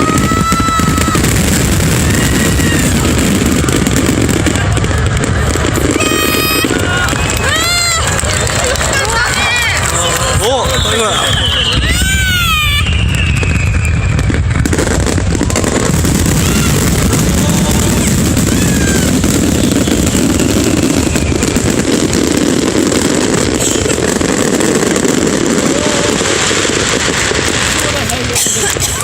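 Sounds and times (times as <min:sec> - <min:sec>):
faint crowd voices: 0:00.0 - 0:29.0
fireworks bangs and crackles: 0:00.0 - 0:29.0.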